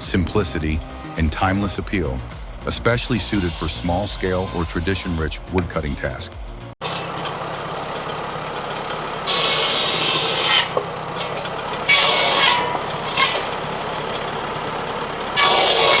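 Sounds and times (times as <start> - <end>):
circular saw cutting logs: 0.0 - 14.3, 15.3 - 16.0
tractor engine droning: 0.0 - 16.0.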